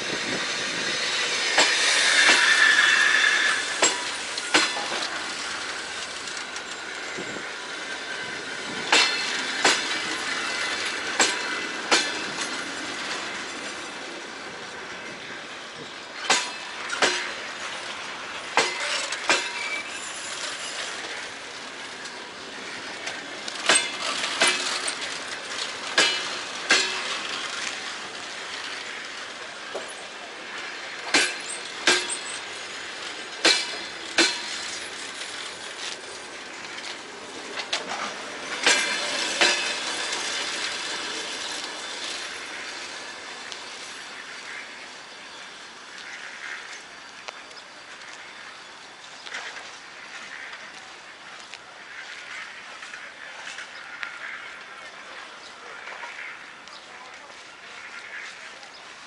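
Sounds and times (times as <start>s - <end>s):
wheel squeal: 0.0s - 50.8s
train wheels clacking over rail joint: 0.0s - 56.8s
railway cars rolling rumble: 0.0s - 59.0s.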